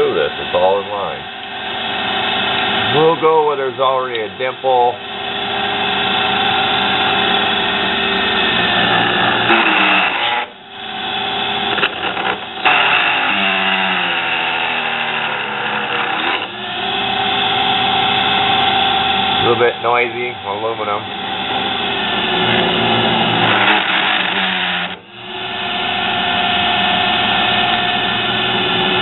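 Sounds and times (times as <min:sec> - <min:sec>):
drill bit cutting chatter: 0:00.0 - 0:29.0
motor whining: 0:00.0 - 0:29.0.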